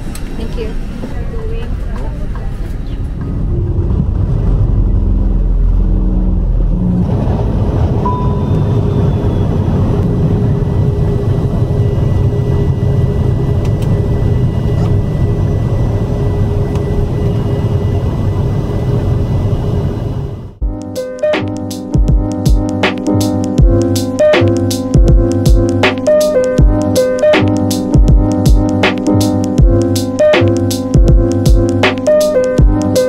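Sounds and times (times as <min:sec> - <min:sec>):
vehicle cabin rumble: 0:00.0 - 0:33.0.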